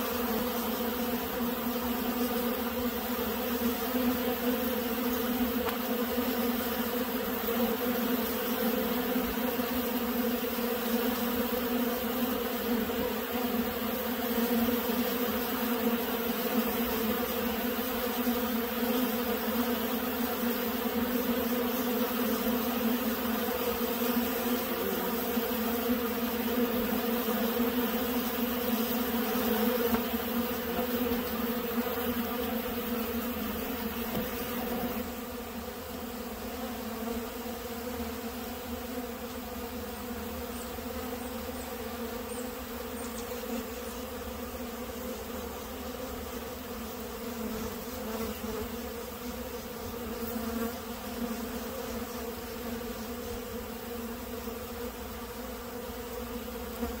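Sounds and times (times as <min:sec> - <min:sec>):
honeybees buzzing: 0:00.0 - 0:57.0.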